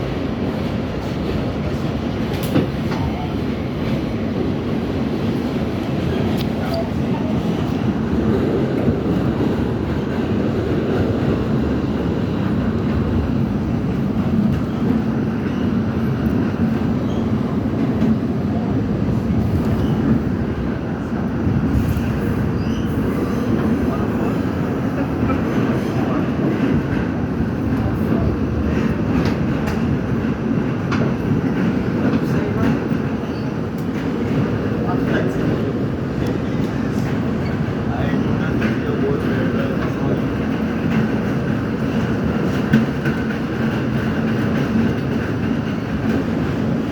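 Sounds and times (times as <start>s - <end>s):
subway train wheels rumbling: 0.0s - 46.9s.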